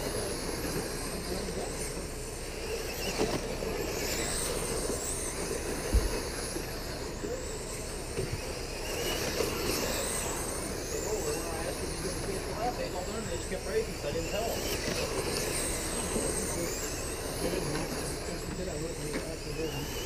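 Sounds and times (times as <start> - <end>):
model race car motors whining: 0.0 - 20.0.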